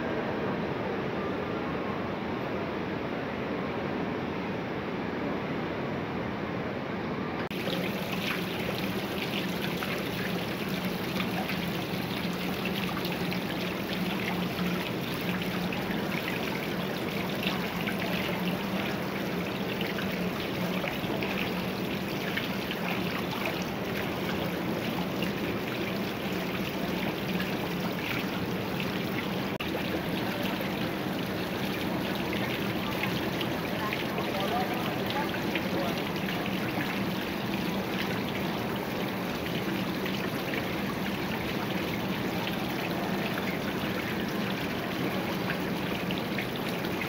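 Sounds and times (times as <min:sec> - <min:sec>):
fountain water trickling: 0:07.5 - 0:47.0.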